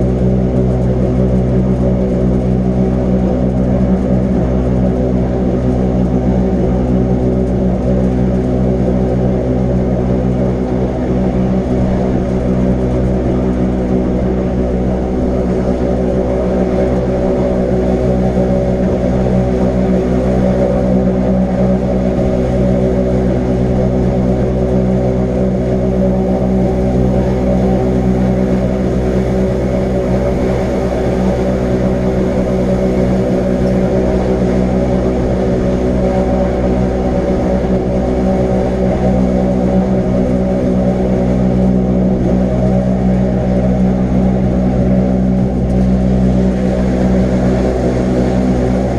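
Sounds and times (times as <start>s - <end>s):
electric train motor hum: 0.0s - 48.9s.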